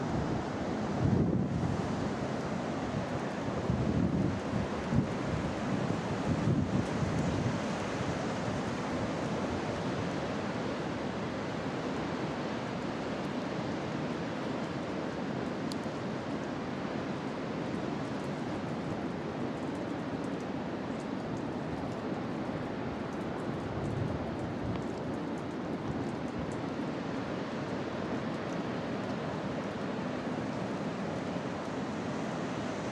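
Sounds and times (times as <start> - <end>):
ocean surf on rocky shore: 0.0 - 32.9.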